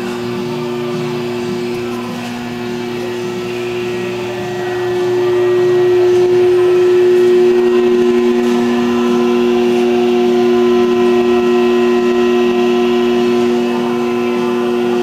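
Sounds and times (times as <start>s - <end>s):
machine motor droning: 0.0s - 15.0s.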